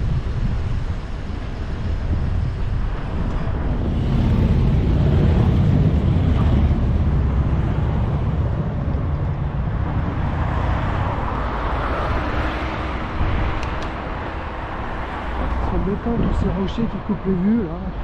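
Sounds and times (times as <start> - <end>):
road noise: 0.0 - 18.0
wind rush on microphone: 0.0 - 18.0.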